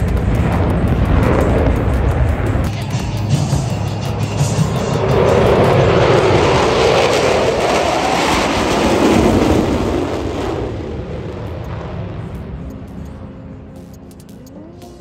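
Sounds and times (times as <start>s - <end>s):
jet aircraft roar passing: 0.0s - 15.0s.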